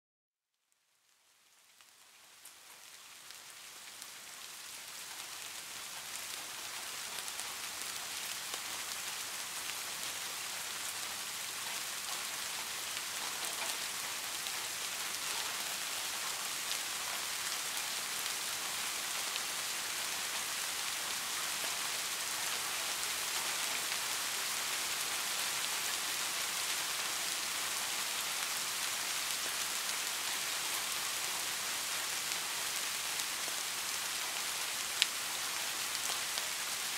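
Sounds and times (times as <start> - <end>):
heavy rain falling: 1.6 - 36.9.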